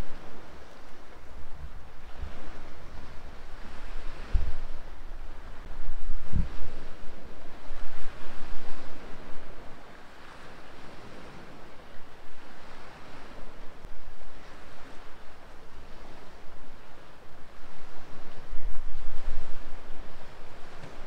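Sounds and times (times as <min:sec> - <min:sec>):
small waves washing ashore: 0:00.0 - 0:21.0
wind buffeting microphone: 0:00.0 - 0:21.0.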